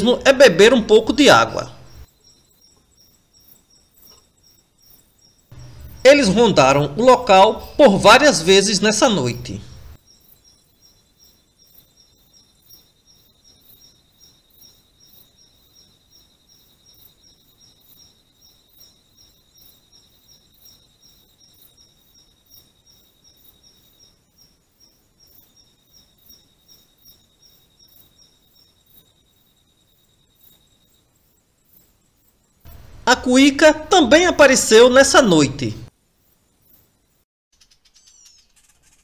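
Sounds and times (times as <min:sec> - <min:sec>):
insect high-pitched trill: 0:00.0 - 0:34.5, 0:36.1 - 0:39.0
insect chirping: 0:00.0 - 0:39.0.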